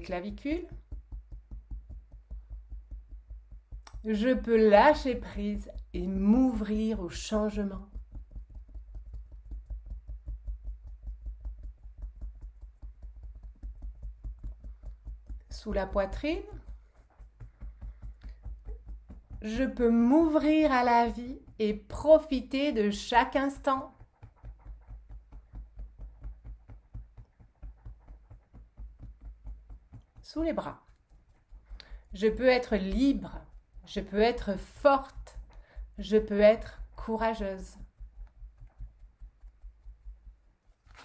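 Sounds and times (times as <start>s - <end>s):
fingertips tapping rapidly: 0.0s - 41.0s.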